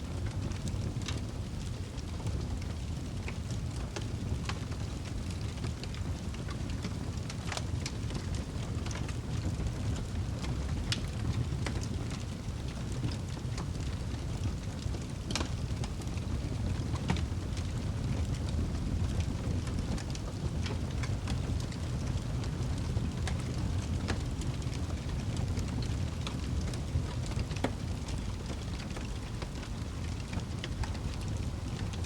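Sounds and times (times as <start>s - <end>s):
burning wood crackling and popping: 0.0s - 32.0s
low rumble of flames: 0.0s - 32.0s.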